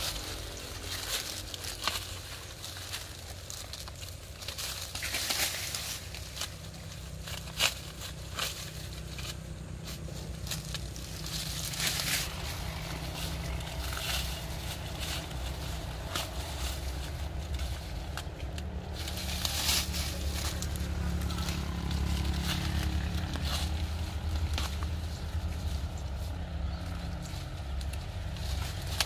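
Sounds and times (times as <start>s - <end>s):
corn stalks snapping: 0.0s - 29.0s
dry corn plants rustling: 0.0s - 29.0s
low steady rumble: 0.0s - 29.0s.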